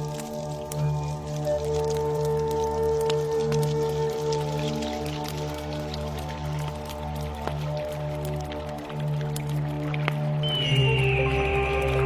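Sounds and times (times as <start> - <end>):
faint drip-like clicks: 0.0 - 12.0
meditative drone music: 0.0 - 12.0.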